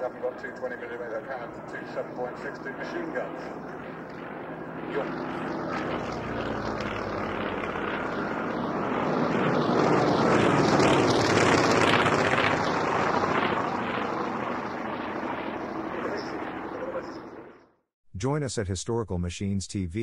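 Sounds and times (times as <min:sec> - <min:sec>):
propeller planes flying past: 0:00.0 - 0:17.8.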